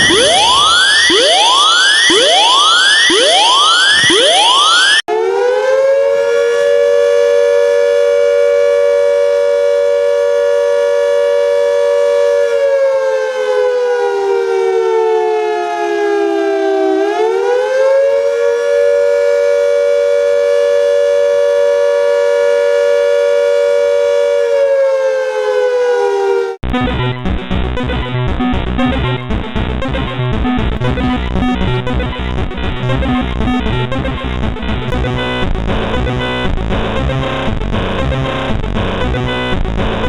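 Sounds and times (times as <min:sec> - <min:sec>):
siren wail: 0:00.0 - 0:27.1, 0:28.8 - 0:40.0.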